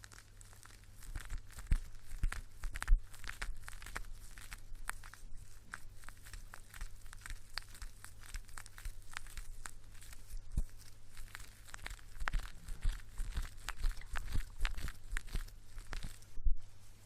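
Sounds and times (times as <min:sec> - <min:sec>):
fingers scrubbing through hair: 0:00.0 - 0:16.4.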